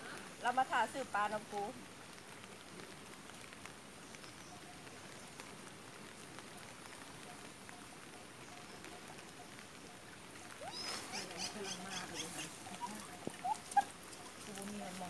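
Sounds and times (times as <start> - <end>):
water drops pattering on stream: 0.0 - 15.0.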